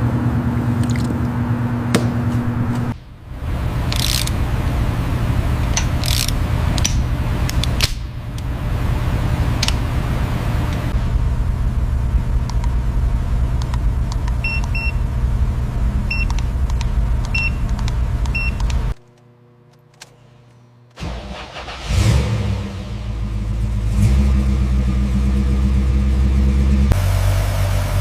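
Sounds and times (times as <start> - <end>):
car engine rumbling: 0.0 - 19.6, 20.8 - 28.0.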